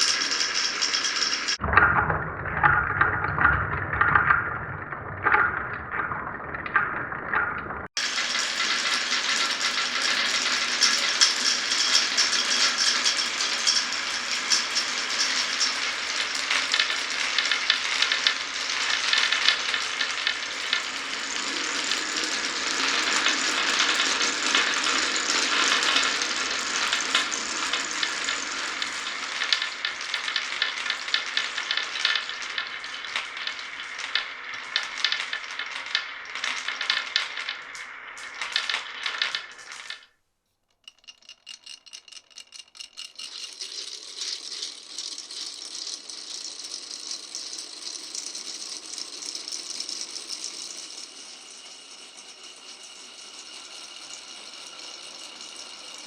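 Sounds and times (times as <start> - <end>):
marbles rattling down wooden run: 0.0 - 40.1, 40.7 - 56.0.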